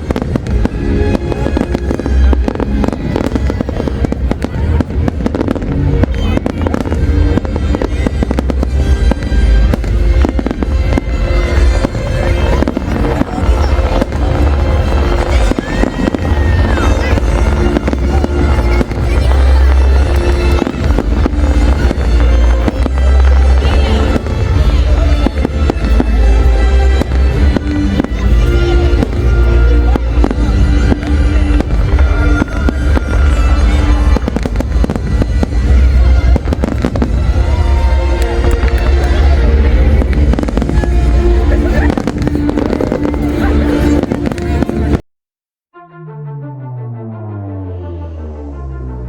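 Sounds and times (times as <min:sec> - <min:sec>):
deep rumble: 0:00.0 - 0:45.0
firework shells banging and crackling: 0:00.0 - 0:45.0
music: 0:00.0 - 0:45.0, 0:45.7 - 0:49.0.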